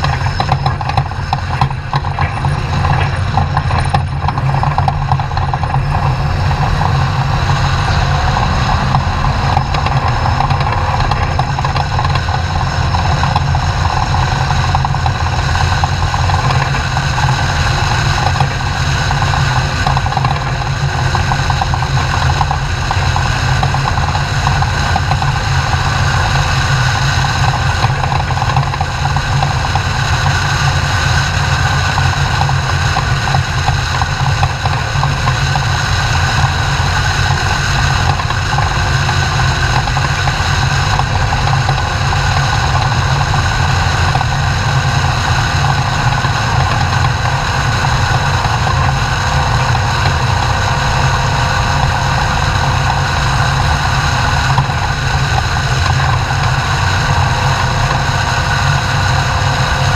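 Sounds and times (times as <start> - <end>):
truck engine running loudly: 0.0 - 59.9.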